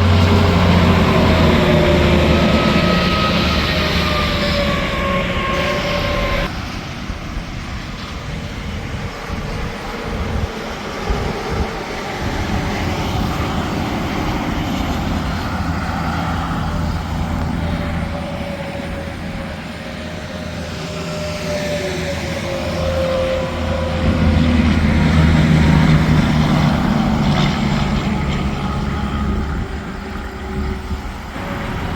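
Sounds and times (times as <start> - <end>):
highway traffic drone: 0.0 - 31.9
passing truck whine: 0.0 - 31.9.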